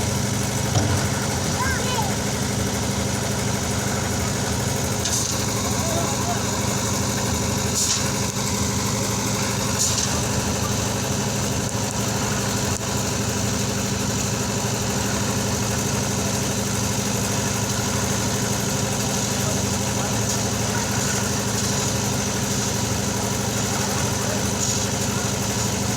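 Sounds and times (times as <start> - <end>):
concrete mixer engine running: 0.0 - 25.9.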